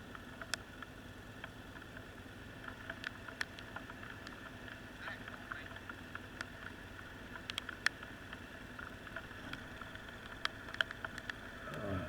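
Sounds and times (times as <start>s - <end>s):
vehicle engine idling: 0.0s - 12.0s
sharp ticks: 0.1s - 11.8s.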